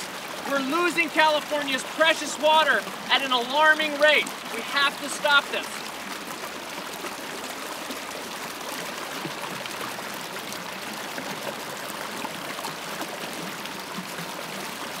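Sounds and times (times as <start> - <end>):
water gushing from pipe: 0.0 - 15.0
water rushing through trench: 0.0 - 15.0.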